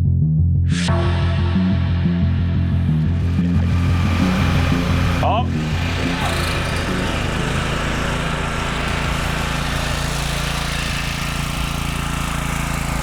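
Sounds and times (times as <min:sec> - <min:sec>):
generator engine running: 0:00.9 - 0:13.0.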